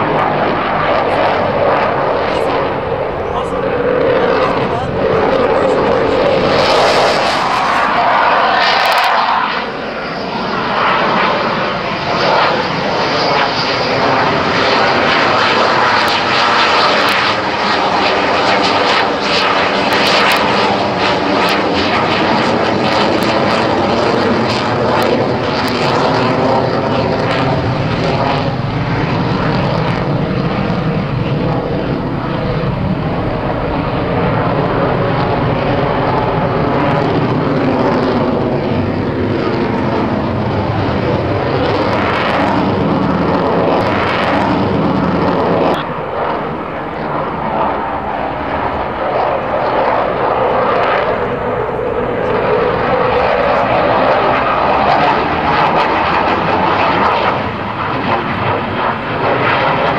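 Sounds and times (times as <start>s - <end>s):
jet engines roaring overhead: 0.0s - 59.9s.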